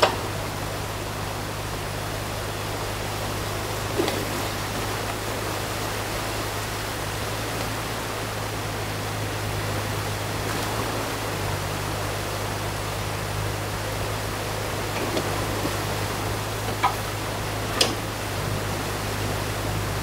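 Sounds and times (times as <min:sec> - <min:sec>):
excavator engine hum: 0:00.0 - 0:20.0
water rushing: 0:00.0 - 0:20.0.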